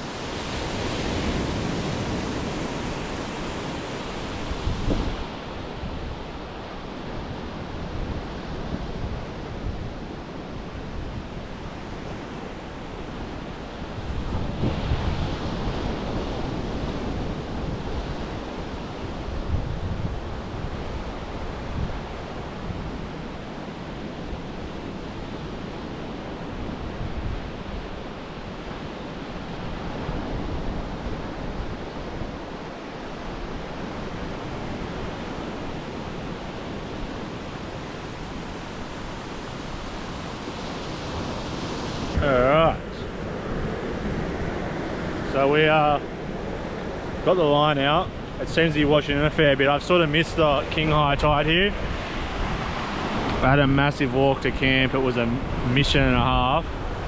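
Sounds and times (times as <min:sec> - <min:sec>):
surf breaking on a beach: 0:00.0 - 0:57.0
wind buffeting the microphone: 0:00.0 - 0:57.0.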